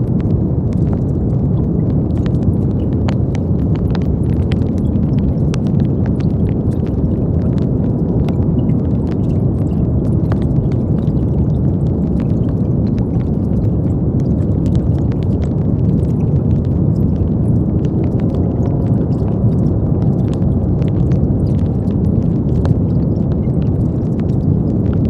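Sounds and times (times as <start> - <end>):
deep rushing brown noise: 0.0 - 25.0.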